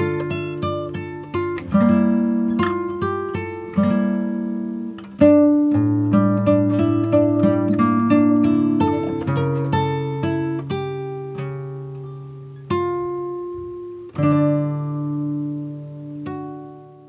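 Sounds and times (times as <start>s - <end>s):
slow plucked string music: 0.0s - 17.0s.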